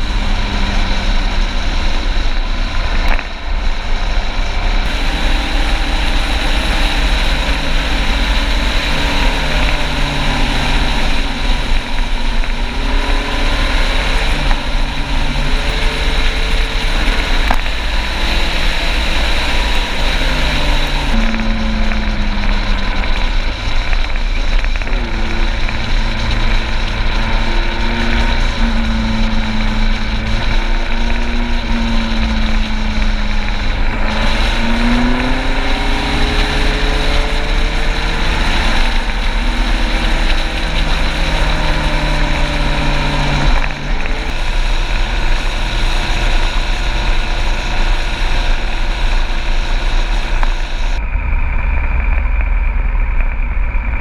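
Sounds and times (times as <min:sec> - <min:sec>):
motorcycle engine running: 0:00.0 - 0:54.0
steady rush of noise: 0:00.0 - 0:54.0.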